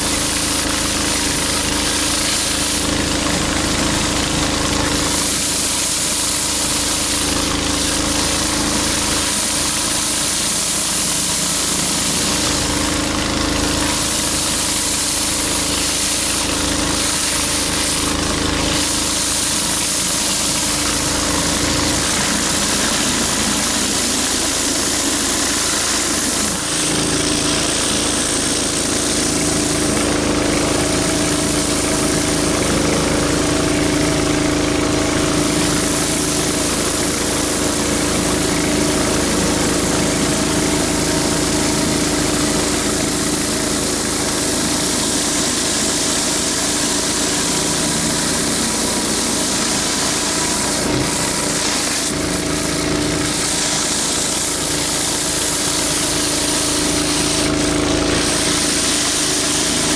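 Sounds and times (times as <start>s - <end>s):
pressure washer engine running: 0.0s - 59.9s
water jet hissing on concrete: 0.0s - 59.9s.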